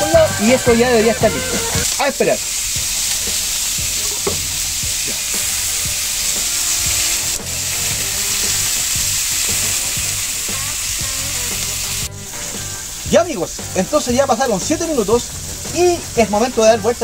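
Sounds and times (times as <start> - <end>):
steaks sizzling on a griddle: 0.0 - 17.0.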